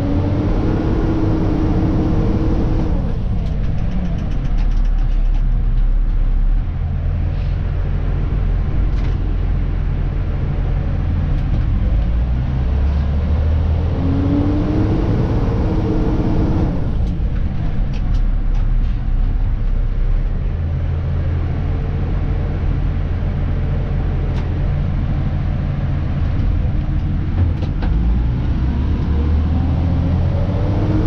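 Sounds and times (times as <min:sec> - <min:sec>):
diesel truck engine: 0:00.0 - 0:31.0.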